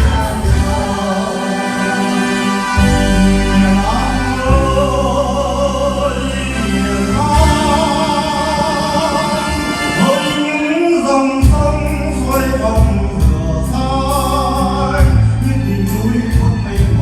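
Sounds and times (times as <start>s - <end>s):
group of voices singing: 0.0s - 17.0s
instrumental backing with bass: 0.0s - 17.0s.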